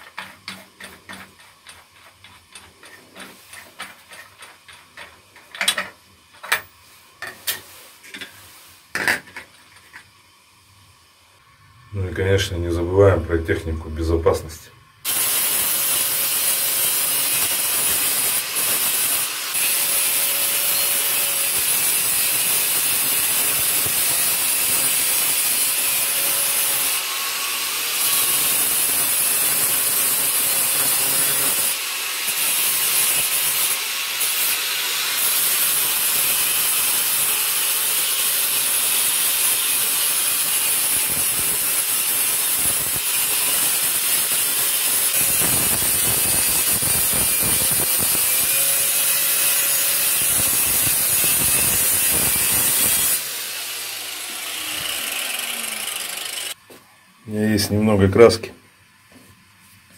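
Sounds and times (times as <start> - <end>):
angle grinder grinding metal: 0.0 - 8.4, 15.1 - 56.6.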